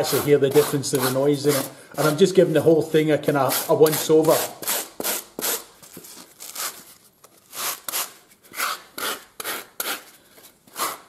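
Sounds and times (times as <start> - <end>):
rasp scraping foam: 0.0 - 5.7, 7.5 - 11.0.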